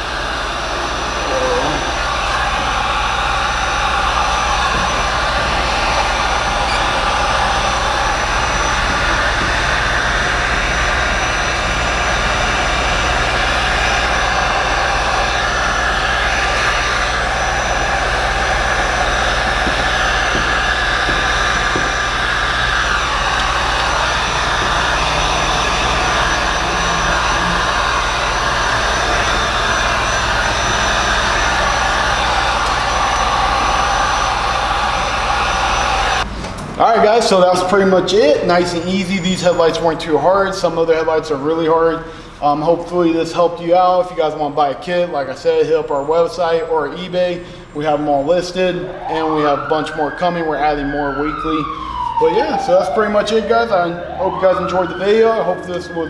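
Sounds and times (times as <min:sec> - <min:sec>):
heat gun blower whine: 0:00.0 - 0:56.0.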